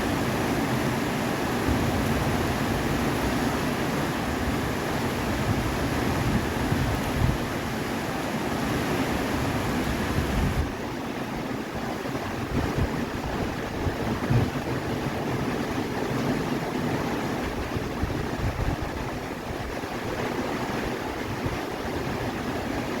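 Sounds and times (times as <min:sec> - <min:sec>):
rushing floodwater: 0:00.0 - 0:23.0
wind buffeting microphone: 0:01.4 - 0:07.8, 0:08.7 - 0:10.9, 0:11.8 - 0:23.0.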